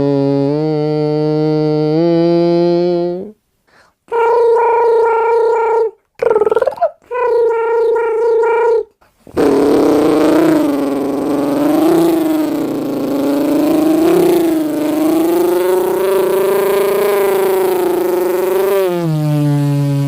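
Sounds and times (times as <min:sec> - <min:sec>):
man making mouth sound effects: 0:00.0 - 0:03.4, 0:04.1 - 0:20.0.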